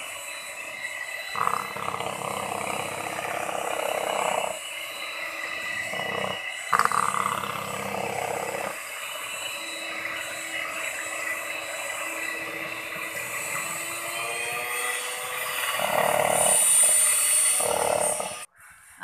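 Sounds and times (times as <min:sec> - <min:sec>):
electric hand mixer whirring: 0:00.0 - 0:18.5.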